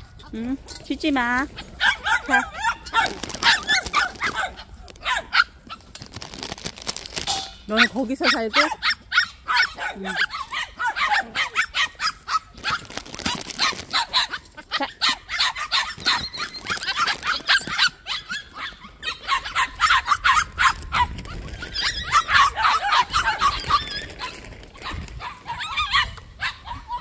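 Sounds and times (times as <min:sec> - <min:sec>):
puppies yipping and barking: 0:00.0 - 0:00.3, 0:01.3 - 0:05.9, 0:07.4 - 0:27.0.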